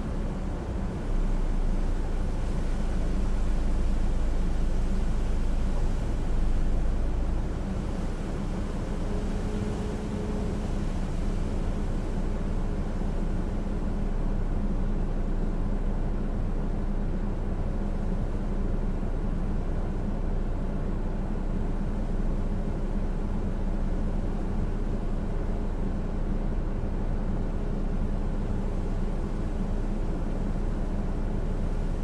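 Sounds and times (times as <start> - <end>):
hurricane wind and rain: 0.0 - 32.0.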